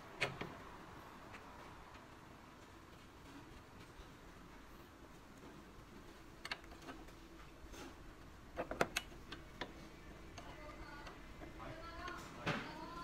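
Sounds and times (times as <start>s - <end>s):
faint workshop hum: 0.0s - 13.0s.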